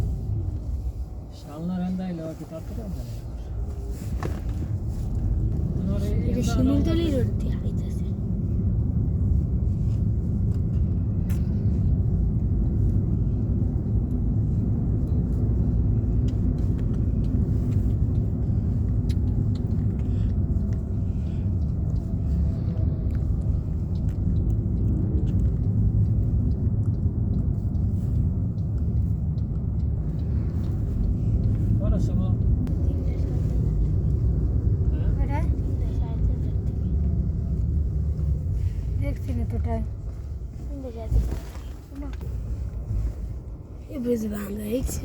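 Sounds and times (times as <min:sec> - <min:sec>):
vehicle rumbling along a road: 0:00.0 - 0:45.0.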